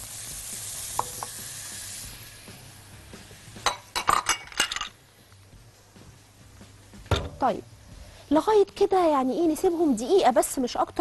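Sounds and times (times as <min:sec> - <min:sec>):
onion and pepper sizzling in oil: 0:00.0 - 0:11.0.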